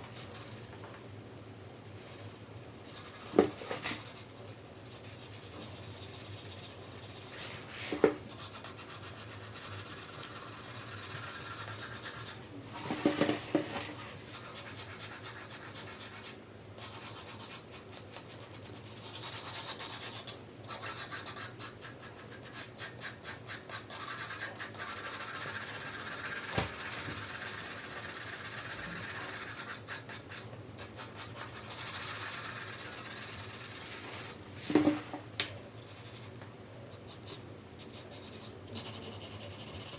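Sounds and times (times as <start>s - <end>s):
pencil scratching on paper: 0.3s - 7.7s, 8.3s - 12.4s, 14.3s - 34.4s, 37.0s - 39.9s.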